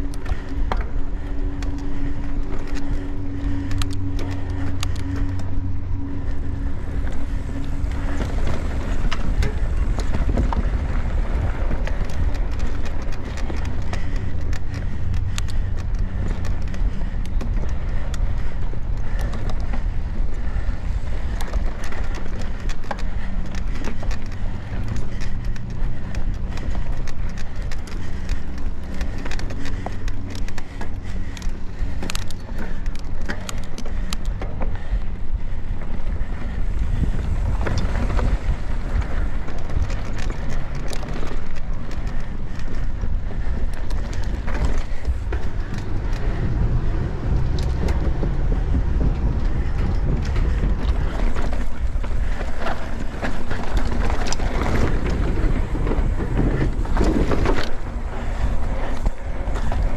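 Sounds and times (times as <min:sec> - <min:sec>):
bike clicks and rattles: 0:00.0 - 0:59.9
tyre noise on dirt trail: 0:00.0 - 0:59.9
wind rumble on microphone: 0:00.0 - 0:59.9.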